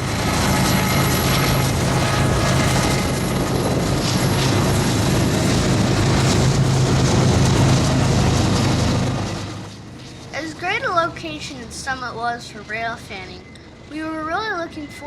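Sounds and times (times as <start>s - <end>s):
rail noise: 0.0s - 14.2s
locomotive engine drone: 0.0s - 15.0s.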